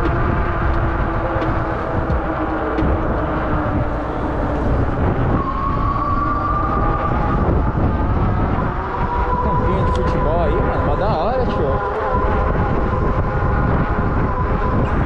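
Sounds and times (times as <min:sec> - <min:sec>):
street traffic: 0:00.0 - 0:15.0
wind on microphone: 0:00.0 - 0:15.0.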